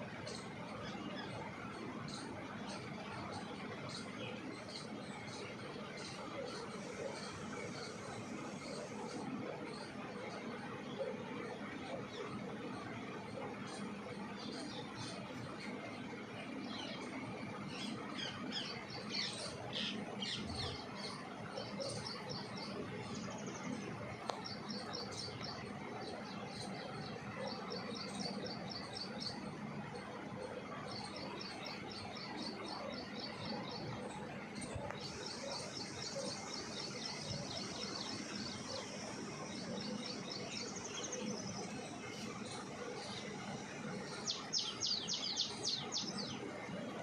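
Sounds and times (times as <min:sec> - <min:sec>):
small birds chirping: 0:00.1 - 0:47.0.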